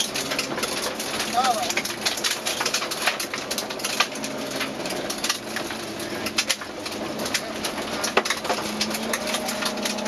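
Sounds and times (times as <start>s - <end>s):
car road and engine noise: 0.0s - 10.0s
gravel clicks and rattles: 0.0s - 10.0s.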